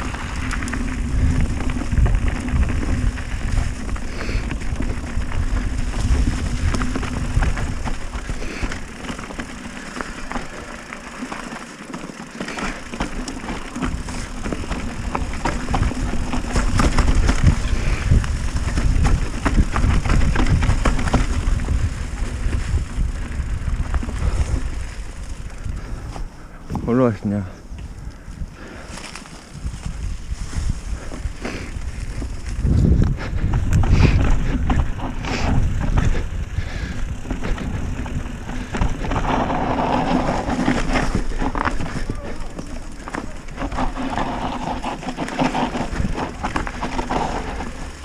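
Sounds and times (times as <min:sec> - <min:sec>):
bike clicks and rattles: 0:00.0 - 0:48.0
mountain bike rumbling on trail: 0:00.0 - 0:48.0.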